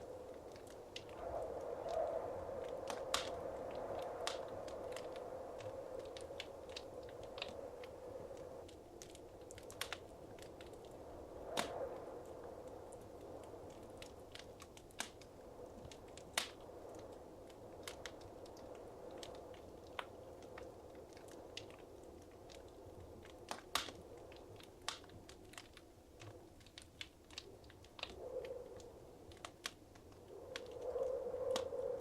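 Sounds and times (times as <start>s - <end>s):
fire popping and snapping: 0.0s - 32.0s
soft rush of flame: 0.0s - 32.0s.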